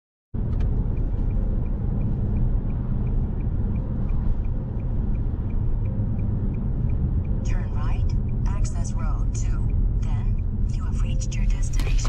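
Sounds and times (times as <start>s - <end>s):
faint even ticking: 0.4s - 12.0s
road and engine rumble: 0.4s - 12.0s.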